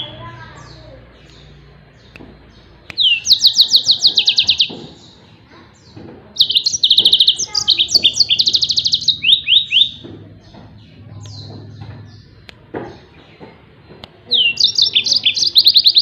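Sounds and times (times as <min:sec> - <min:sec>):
finch singing rapid trills: 0:00.0 - 0:13.4, 0:14.3 - 0:16.0.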